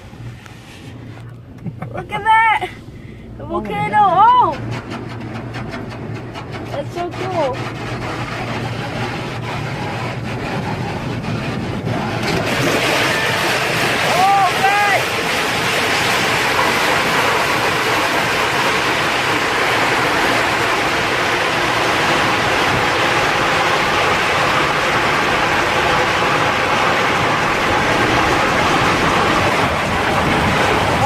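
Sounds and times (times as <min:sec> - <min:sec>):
car wash water and machinery: 0:00.0 - 0:31.0.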